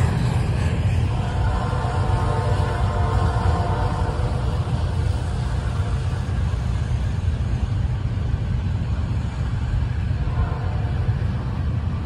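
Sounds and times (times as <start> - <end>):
freight cars rolling on rails: 0.0 - 12.0.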